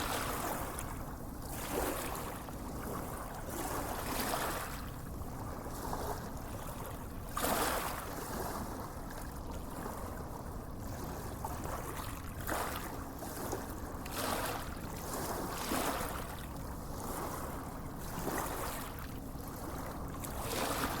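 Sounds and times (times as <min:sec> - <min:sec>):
small waves lapping: 0:00.0 - 0:21.0.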